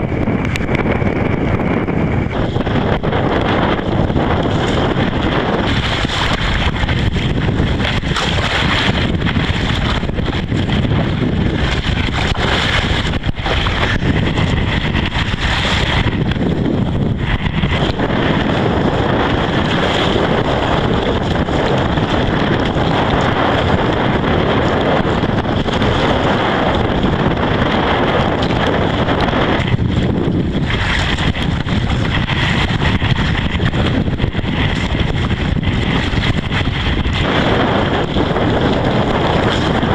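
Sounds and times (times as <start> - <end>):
choppy water: 0.0 - 39.9
wind buffeting microphone: 0.0 - 39.9.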